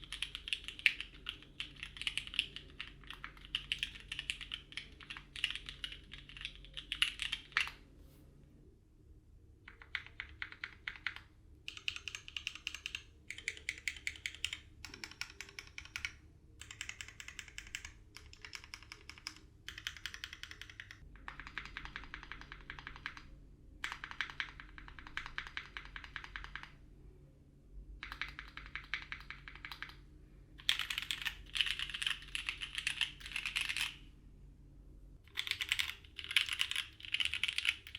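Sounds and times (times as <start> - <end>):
typing on mechanical keyboard: 0.0 - 7.8, 9.7 - 26.8, 28.0 - 30.0, 30.6 - 34.0, 35.3 - 37.9.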